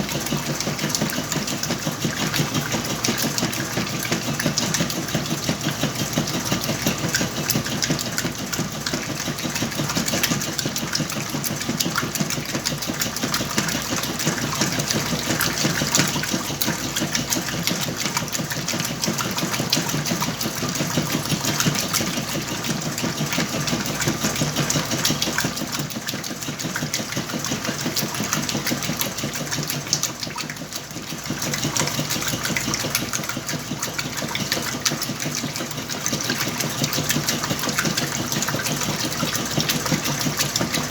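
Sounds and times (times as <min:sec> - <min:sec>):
washing machine churning: 0:00.0 - 0:40.9.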